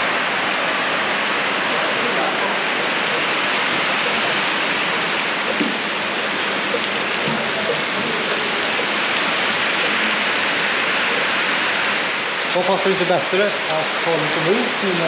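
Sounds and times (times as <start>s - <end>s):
heavy rain on pavement: 0.0s - 15.0s.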